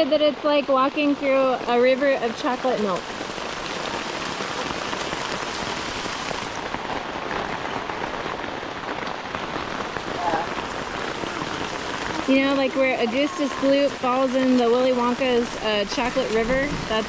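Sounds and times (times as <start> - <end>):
rain on plastic shower curtain: 0.0 - 17.0.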